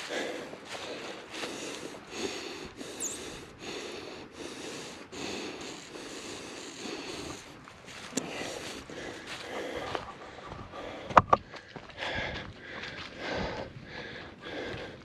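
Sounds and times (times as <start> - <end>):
footsteps on trail: 0.0 - 3.8, 5.2 - 15.0
person breathing hard: 0.0 - 15.0.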